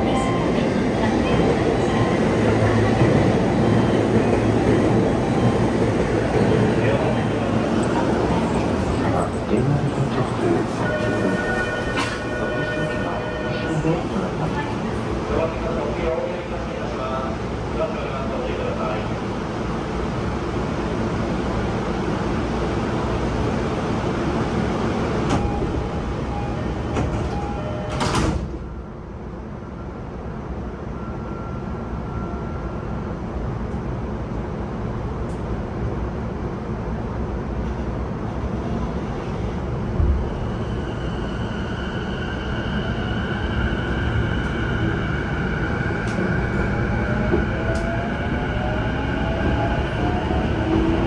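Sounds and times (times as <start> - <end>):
train car hum: 0.0 - 51.0.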